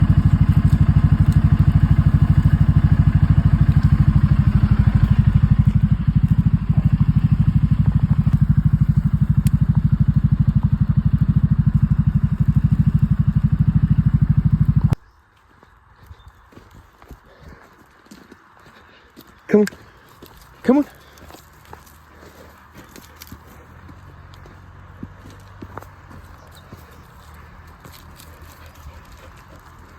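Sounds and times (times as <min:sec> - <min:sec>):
vehicle engine idling: 0:00.0 - 0:15.0, 0:18.4 - 0:29.9.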